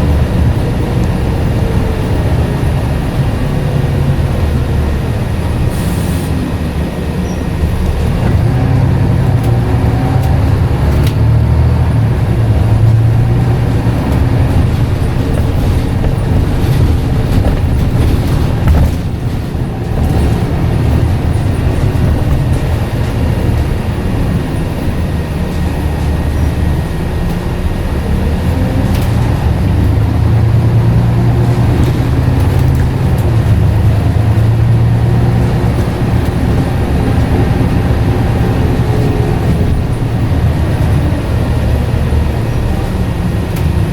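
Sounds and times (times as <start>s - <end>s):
bus engine drone: 0.0s - 43.9s.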